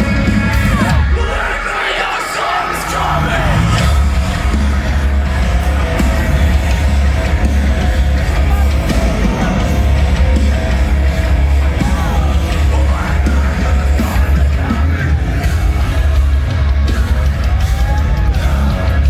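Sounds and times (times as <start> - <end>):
metalcore band playing live: 0.0 - 19.0.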